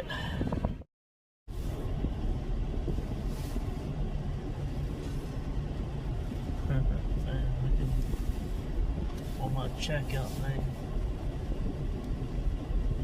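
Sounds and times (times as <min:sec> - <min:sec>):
car engine running: 0:01.5 - 0:13.0.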